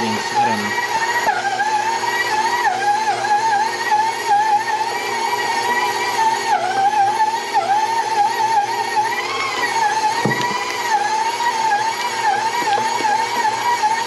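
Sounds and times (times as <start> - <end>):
stand mixer motor whining: 0.0 - 14.0.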